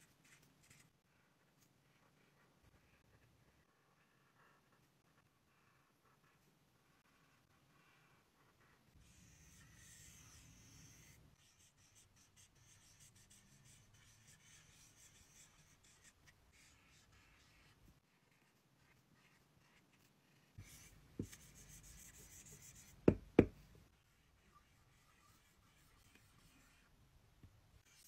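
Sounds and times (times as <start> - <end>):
marker rubbing on whiteboard: 1.8 - 23.2, 23.9 - 26.9.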